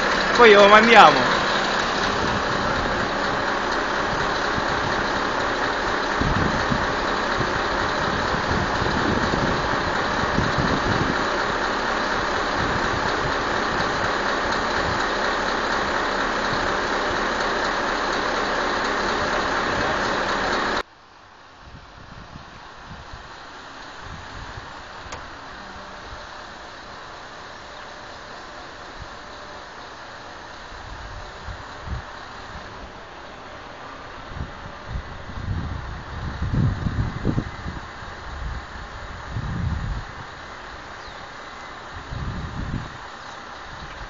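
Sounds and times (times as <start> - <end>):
vehicle engine idling: 0.0 - 21.1, 22.6 - 44.0.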